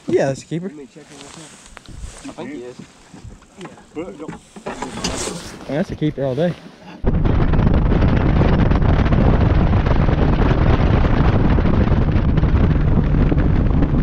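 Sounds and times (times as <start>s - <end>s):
wind buffeting microphone: 1.7s - 6.3s, 7.0s - 14.0s.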